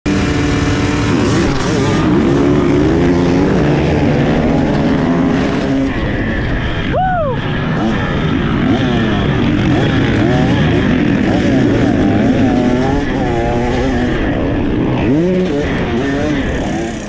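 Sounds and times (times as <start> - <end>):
dirt bike engines revving: 0.1 - 17.0.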